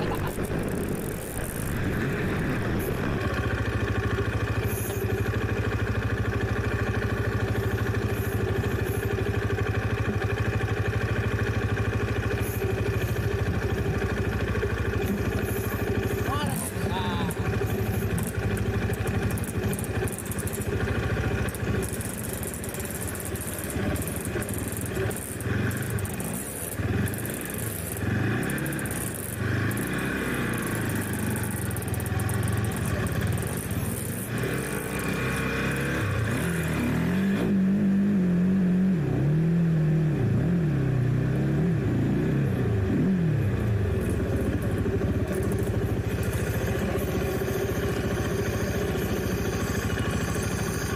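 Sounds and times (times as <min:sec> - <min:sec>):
motorcycle rattling and scraping: 0:00.0 - 0:38.4, 0:40.4 - 0:50.9
motorcycle engine revving: 0:00.0 - 0:50.9.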